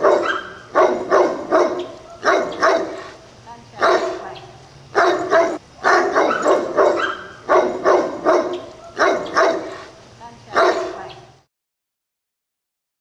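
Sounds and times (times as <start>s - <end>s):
another dog barking: 0.0s - 3.2s, 3.8s - 11.3s
dog barking loudly: 0.0s - 3.2s, 3.8s - 11.3s.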